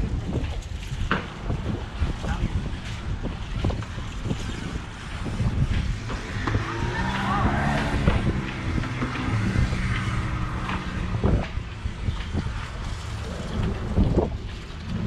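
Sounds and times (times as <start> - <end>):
boat engine running: 0.0 - 15.0
wind rumble on microphone: 0.0 - 15.0.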